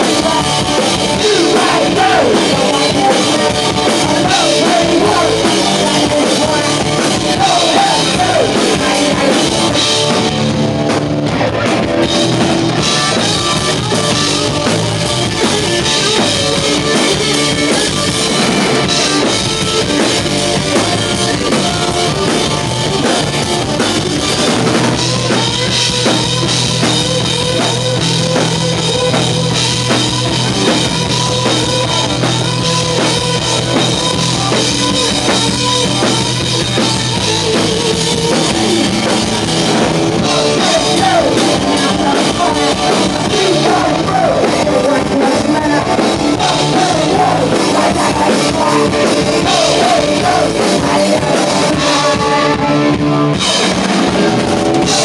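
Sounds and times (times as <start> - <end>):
bass line: 0.0 - 55.0
driving drum kit: 0.0 - 55.0
electric guitar: 0.0 - 55.0.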